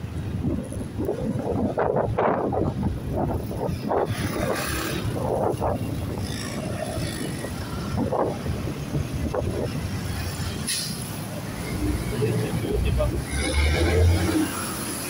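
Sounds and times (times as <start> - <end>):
motorcycle and road rumble: 0.0 - 15.0
wind buffeting microphone: 0.0 - 15.0.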